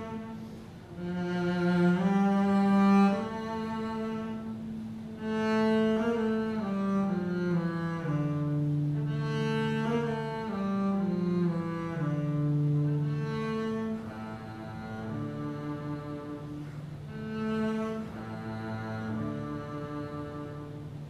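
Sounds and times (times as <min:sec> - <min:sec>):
bowed double bass: 0:00.0 - 0:21.0.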